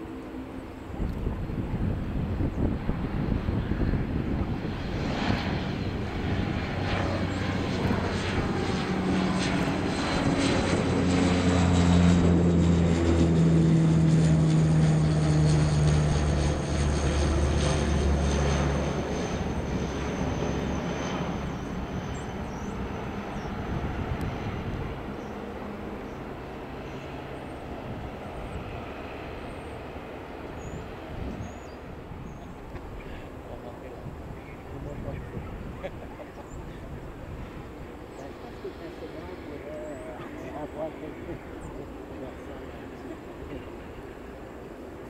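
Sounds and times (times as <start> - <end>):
turboprop plane passing overhead: 0.0 - 45.0.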